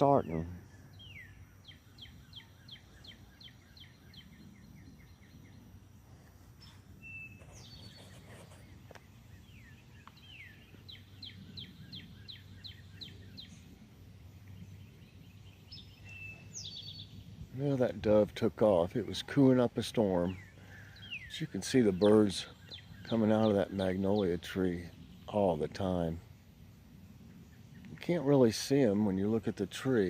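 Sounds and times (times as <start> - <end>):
faint low rumble: 0.0 - 19.8, 22.5 - 29.7
songbird chirping: 0.0 - 30.0.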